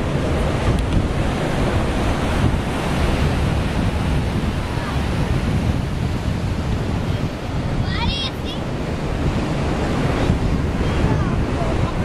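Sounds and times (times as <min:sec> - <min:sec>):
surf breaking on rocky shore: 0:00.0 - 0:12.0
wind buffeting microphone: 0:00.0 - 0:12.0.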